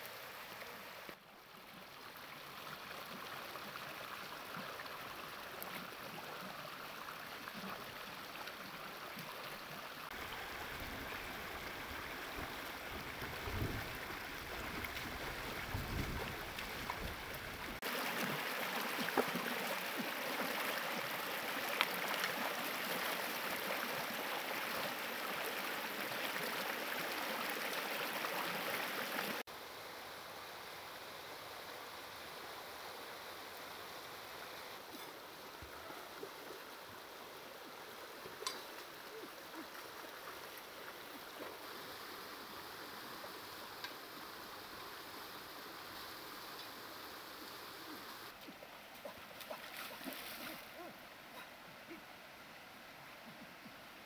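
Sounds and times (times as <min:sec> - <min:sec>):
stream rushing over stones: 0:00.0 - 0:29.5, 0:31.9 - 0:52.6.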